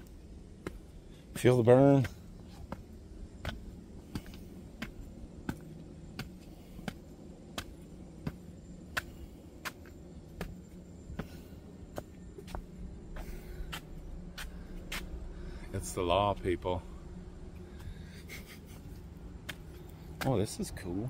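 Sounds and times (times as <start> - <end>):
footsteps climbing outdoor stairs: 0.0 - 21.0.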